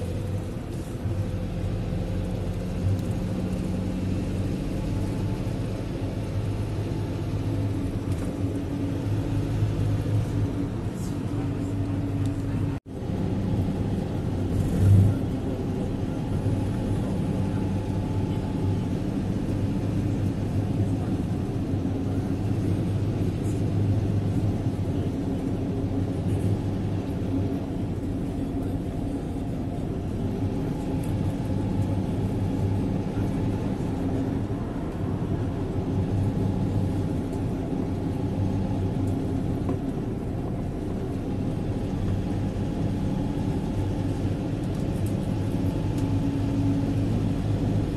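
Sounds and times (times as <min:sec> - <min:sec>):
vehicle engine hum: 0:00.0 - 0:47.9.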